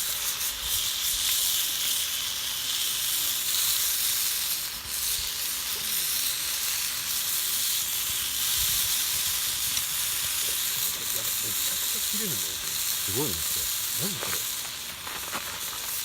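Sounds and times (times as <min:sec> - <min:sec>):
food frying with sizzle: 0:00.0 - 0:16.0.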